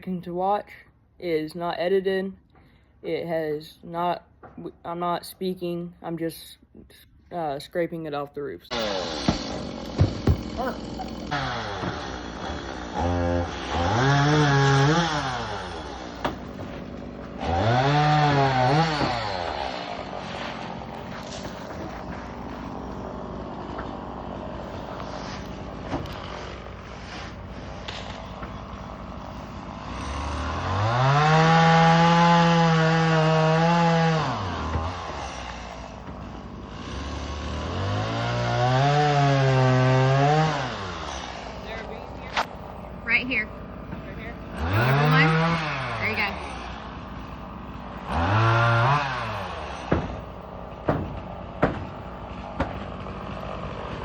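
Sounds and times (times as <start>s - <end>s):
chainsaw revving and idling: 8.7s - 54.0s.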